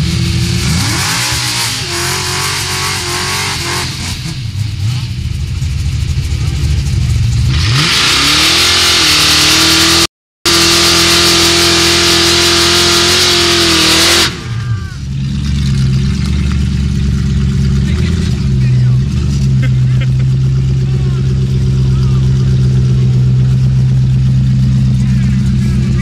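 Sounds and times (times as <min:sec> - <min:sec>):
car engine idling: 0:00.0 - 0:26.0
car engine revving: 0:00.0 - 0:26.0
spinning tyres hissing: 0:00.0 - 0:26.0.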